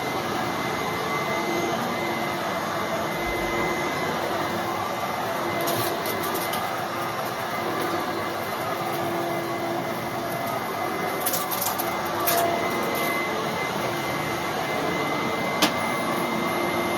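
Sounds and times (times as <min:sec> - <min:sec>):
vacuum cleaner whirring: 0:00.0 - 0:16.9.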